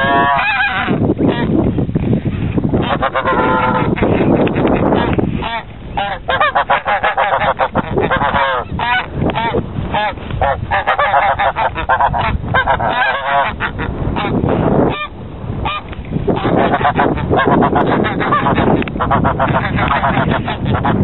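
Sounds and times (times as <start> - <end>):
geese honking: 0.0 - 1.6, 2.7 - 21.0.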